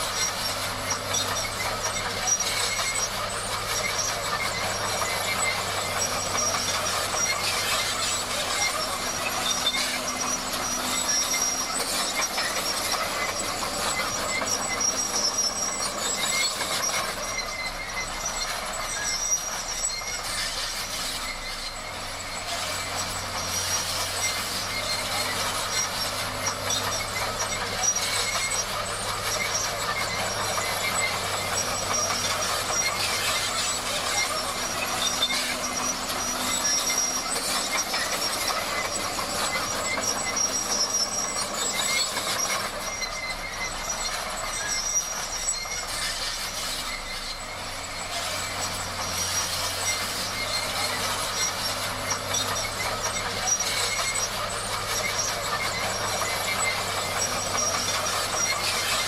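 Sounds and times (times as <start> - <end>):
crawler tracks squealing and grinding: 0.0 - 59.0.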